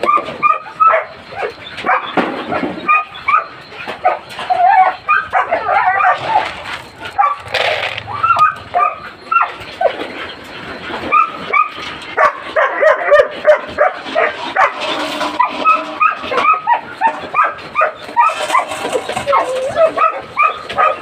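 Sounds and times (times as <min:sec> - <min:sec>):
dogs barking yipping and whining: 0:00.0 - 0:21.0.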